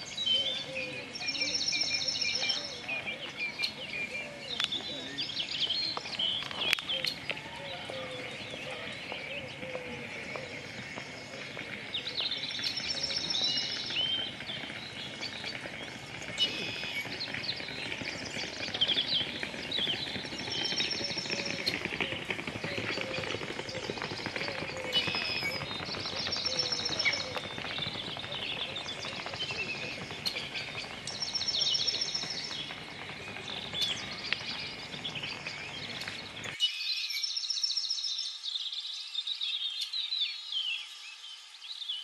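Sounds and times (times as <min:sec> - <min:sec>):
low outdoor rumble: 0:00.0 - 0:36.6
small birds chirping: 0:00.0 - 0:42.0.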